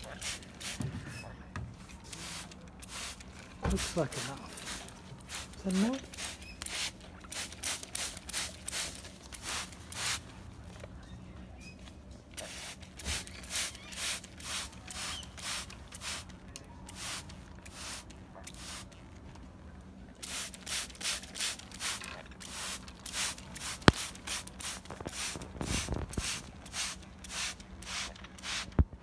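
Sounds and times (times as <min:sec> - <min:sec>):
spray bottle squirting: 0:00.0 - 0:00.8, 0:02.1 - 0:10.2, 0:12.4 - 0:16.3, 0:16.9 - 0:18.9, 0:20.2 - 0:28.9.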